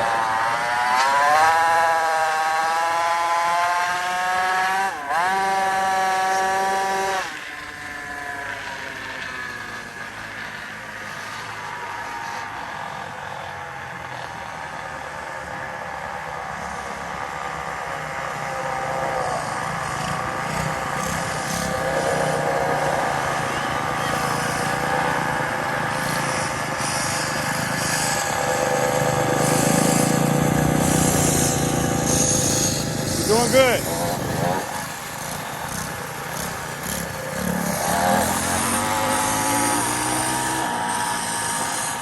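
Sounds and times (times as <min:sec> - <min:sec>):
small motorbike engine running: 0:00.0 - 0:42.0.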